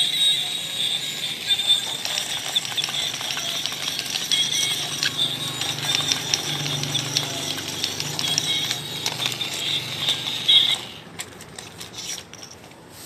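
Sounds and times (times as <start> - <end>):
toy electronic beeping tune: 0.0 - 11.2
small geared motor whirring: 0.1 - 12.6.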